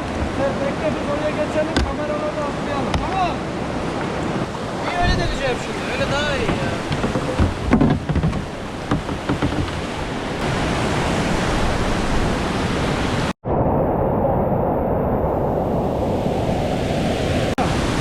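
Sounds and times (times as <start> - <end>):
whitewater rushing: 0.0 - 13.3, 16.0 - 18.0.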